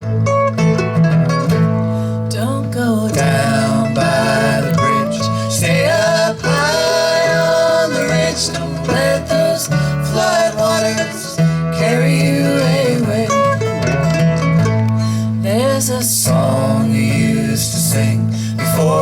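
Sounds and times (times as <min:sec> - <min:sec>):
bass line: 0:00.0 - 0:19.0
strummed acoustic guitar: 0:00.0 - 0:19.0
sliding melody line: 0:02.3 - 0:19.0.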